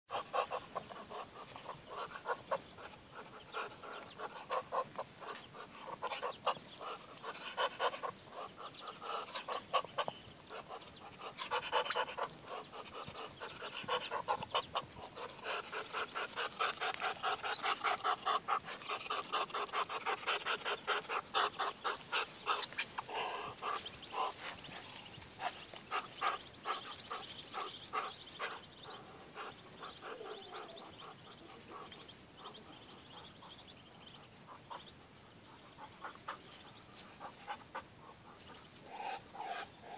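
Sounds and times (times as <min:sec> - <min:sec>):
ducklings peeping: 0:00.1 - 0:39.9.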